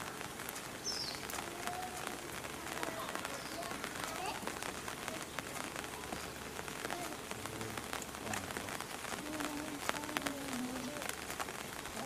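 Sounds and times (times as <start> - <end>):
raindrops ticking on surfaces: 0.0 - 12.0
steady rain falling: 0.0 - 12.0.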